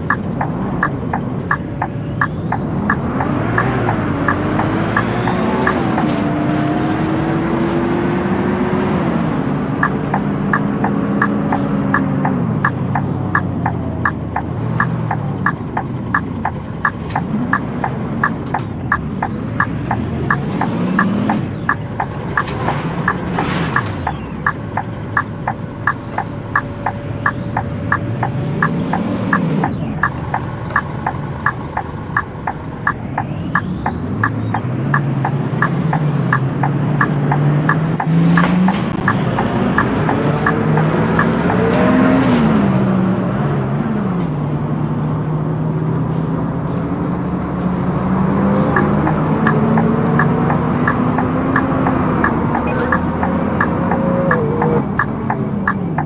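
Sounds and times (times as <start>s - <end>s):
regular ticking: 0.0s - 42.4s, 47.9s - 56.0s
bus diesel engine accelerating: 0.0s - 56.0s
gear whine: 0.0s - 56.0s.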